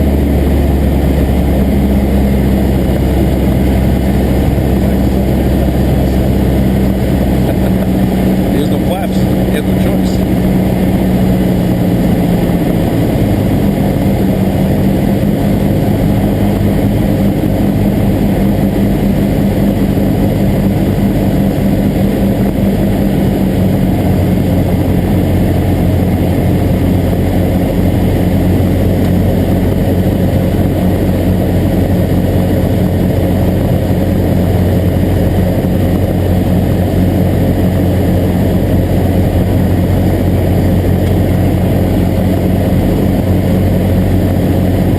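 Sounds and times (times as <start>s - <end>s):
piston aircraft engine and propeller: 0.0s - 44.9s.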